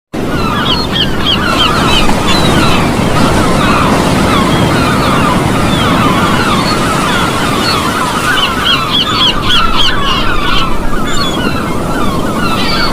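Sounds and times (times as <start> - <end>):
rushing wind: 0.1 - 12.9
birds chirping: 0.2 - 12.9
rushing water: 0.2 - 12.9.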